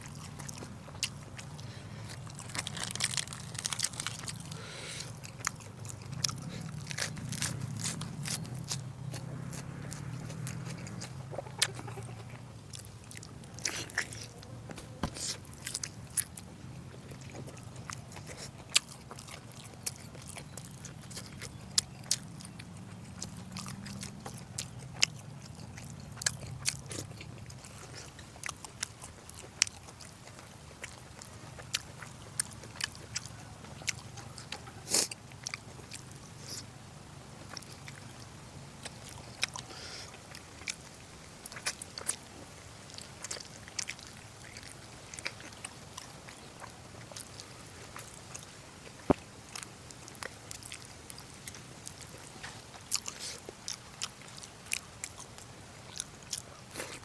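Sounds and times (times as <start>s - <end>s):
person chewing: 0.0s - 36.8s, 37.4s - 57.0s.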